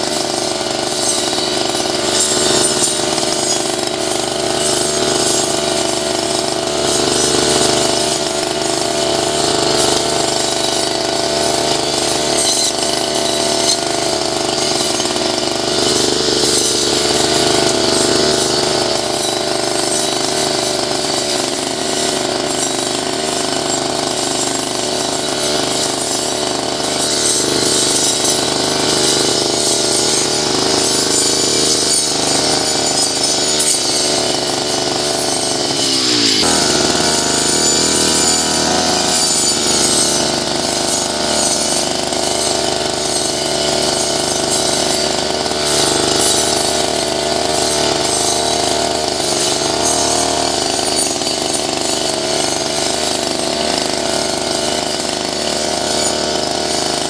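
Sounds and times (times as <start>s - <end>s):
blade cutting through weeds: 0.0s - 57.0s
brush cutter running: 0.0s - 57.0s.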